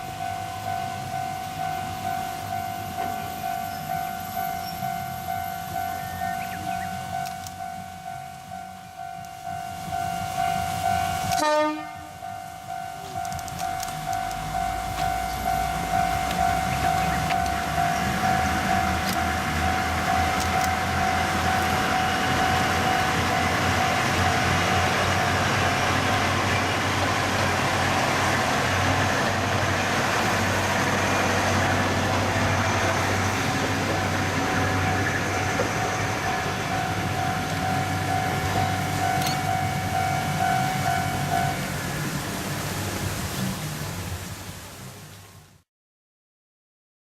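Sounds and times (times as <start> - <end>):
train rolling noise: 0.0 - 45.4
diesel railcar engine rumble: 0.0 - 45.6.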